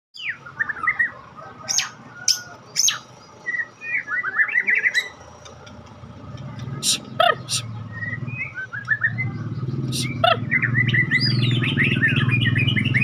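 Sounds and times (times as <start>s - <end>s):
bird singing trills and whistles: 0.2s - 5.2s, 6.8s - 13.0s.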